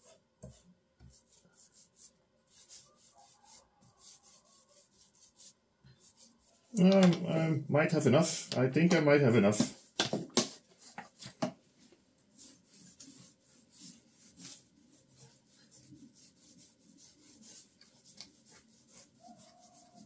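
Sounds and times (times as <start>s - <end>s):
paint roller rubbing on wood: 0.0s - 11.4s, 12.2s - 20.0s.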